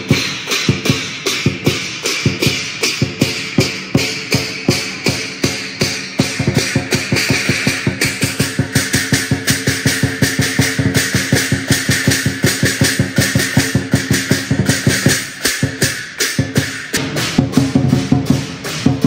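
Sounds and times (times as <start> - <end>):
crashing cymbals: 0.0 - 19.0
large drum beating fast: 0.0 - 19.0.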